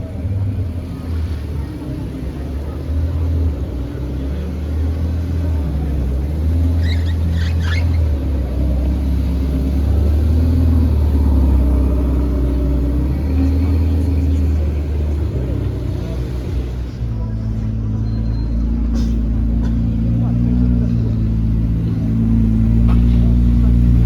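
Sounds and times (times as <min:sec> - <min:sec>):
car engine running: 0:00.0 - 0:18.0, 0:18.6 - 0:24.0.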